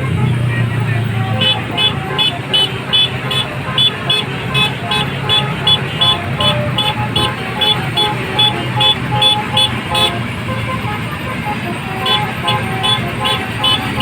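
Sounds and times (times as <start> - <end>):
bus engine running low: 0.0 - 14.0
multi-tone air horn tune: 0.0 - 14.0.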